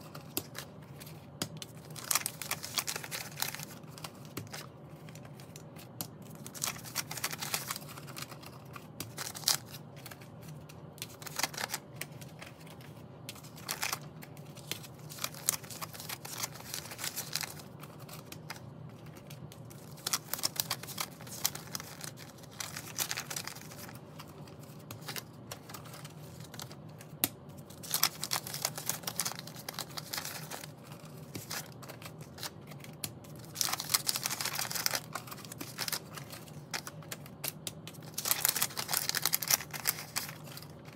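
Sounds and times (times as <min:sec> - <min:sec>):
banknotes rustling and crinkling: 0:00.0 - 0:40.9.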